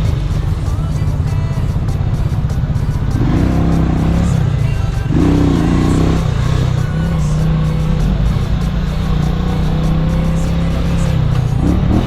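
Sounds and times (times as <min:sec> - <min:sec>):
background music: 0:00.0 - 0:12.0
motorcycle engine running: 0:00.0 - 0:12.0.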